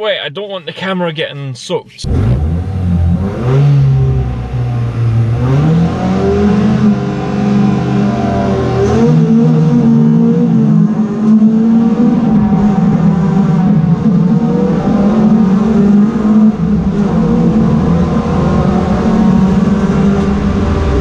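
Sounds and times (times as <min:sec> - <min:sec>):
race car engines revving: 0:02.0 - 0:21.0.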